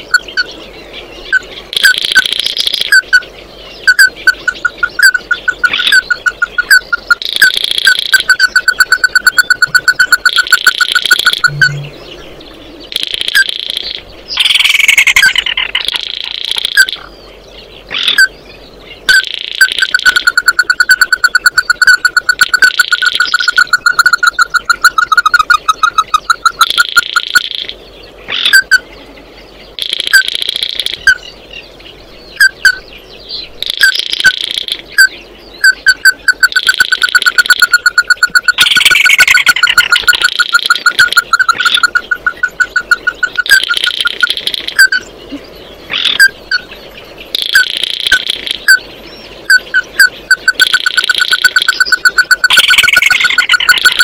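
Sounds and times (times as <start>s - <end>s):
crake calling: 1.2s - 17.1s, 17.7s - 29.0s, 29.7s - 54.0s
higher buzzy chirping: 1.2s - 17.1s, 19.0s - 28.9s, 32.2s - 54.0s.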